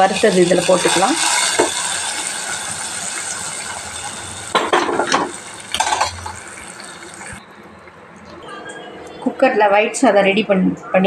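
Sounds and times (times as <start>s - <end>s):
ghee sizzling: 0.0s - 9.5s.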